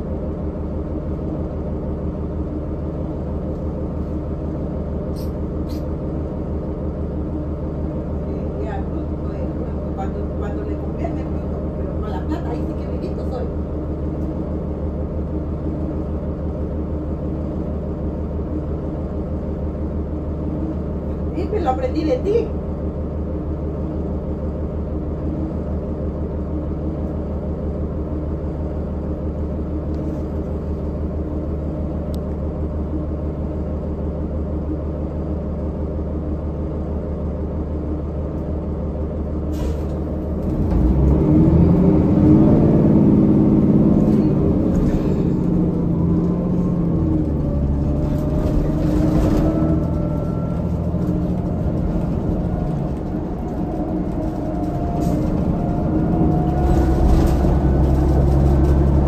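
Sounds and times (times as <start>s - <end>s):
diesel bus engine: 0.0s - 59.0s.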